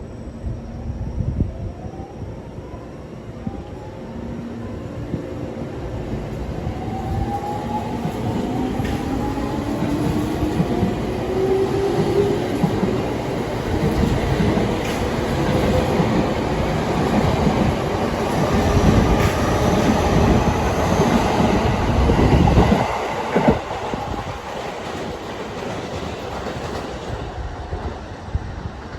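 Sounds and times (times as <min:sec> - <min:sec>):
electric train running past: 0:00.0 - 0:28.9.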